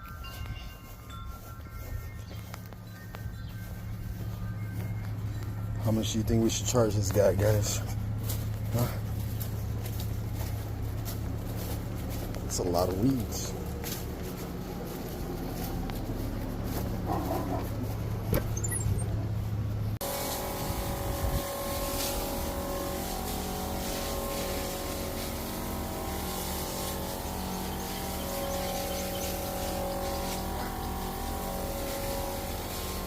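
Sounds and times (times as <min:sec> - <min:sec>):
small gasoline engine running: 0:02.2 - 0:33.0.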